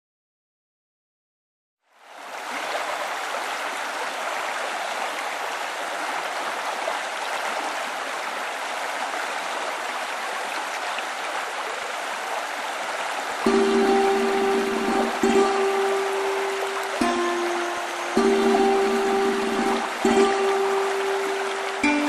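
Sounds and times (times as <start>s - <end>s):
water rushing over weir: 2.1s - 22.0s.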